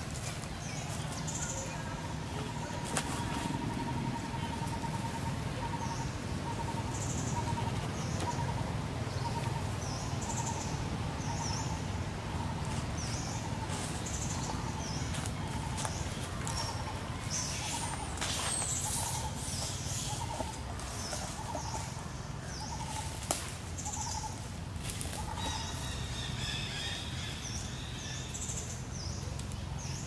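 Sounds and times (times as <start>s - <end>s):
low background rumble: 0.0s - 30.0s
small birds chirping: 0.0s - 30.0s.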